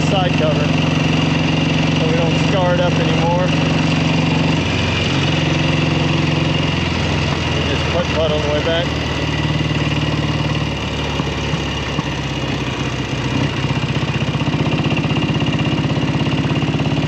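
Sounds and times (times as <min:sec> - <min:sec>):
motorcycle engine putting: 0:00.0 - 0:17.0.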